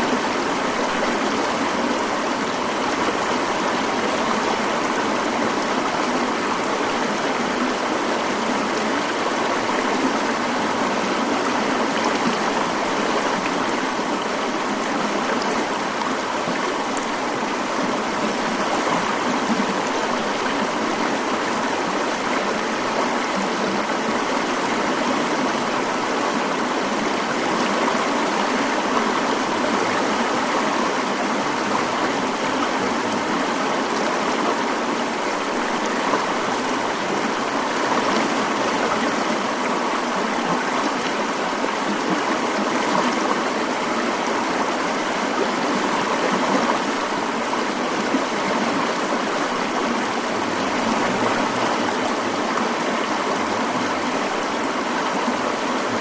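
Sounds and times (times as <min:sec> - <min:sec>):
mountain stream running: 0:00.0 - 0:56.0.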